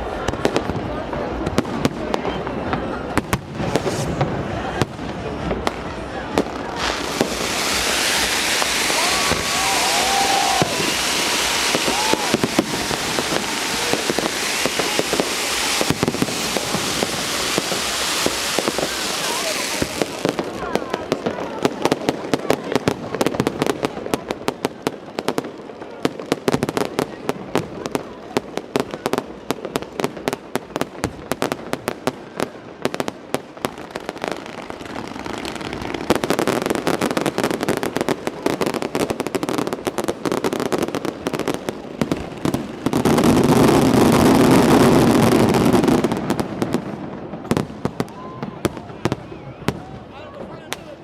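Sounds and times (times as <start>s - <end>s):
fireworks bangs and crackles: 0.0s - 51.0s
loud continuous rush: 0.0s - 51.0s.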